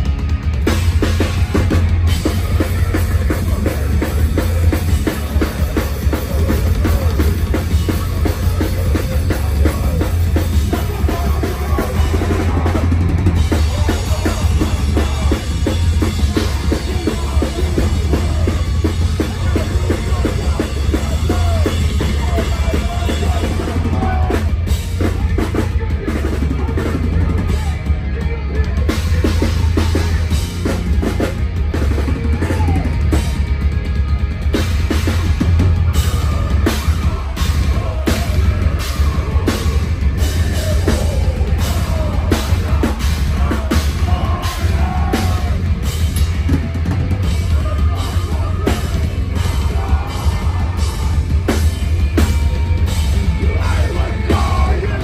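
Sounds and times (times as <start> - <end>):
metal band playing live: 0.0 - 55.0.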